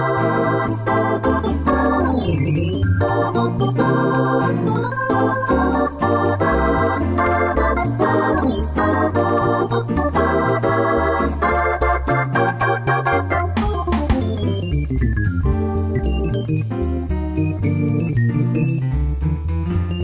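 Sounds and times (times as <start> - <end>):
keyboard chords with bass and beat: 0.0 - 20.0.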